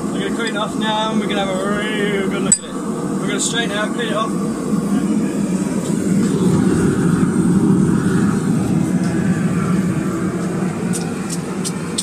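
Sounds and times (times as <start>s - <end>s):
forge air blast rushing: 0.0s - 12.0s.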